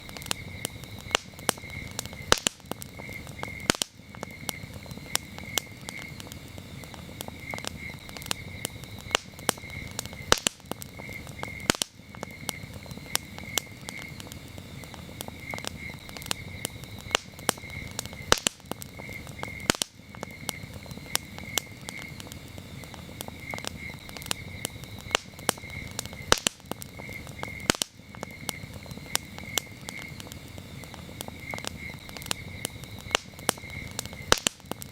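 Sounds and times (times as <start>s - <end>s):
campfire crackling and popping: 0.0s - 34.9s
crickets chirping: 0.0s - 34.9s.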